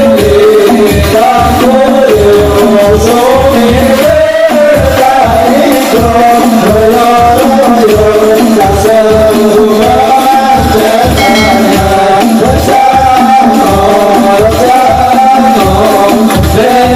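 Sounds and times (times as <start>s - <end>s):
frame drums beating: 0.0s - 16.9s
men singing into microphones: 0.0s - 16.9s.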